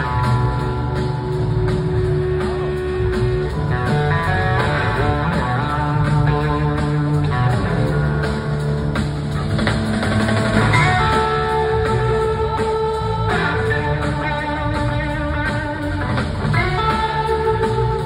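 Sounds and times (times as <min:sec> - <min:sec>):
electric guitar: 0:00.0 - 0:18.0
live blues-rock band: 0:00.0 - 0:18.0.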